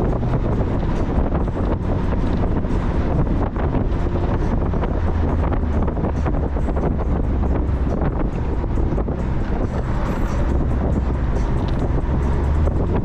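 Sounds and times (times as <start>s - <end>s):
car engine and road hum: 0.0s - 13.0s
wind buffeting microphone: 0.0s - 13.0s.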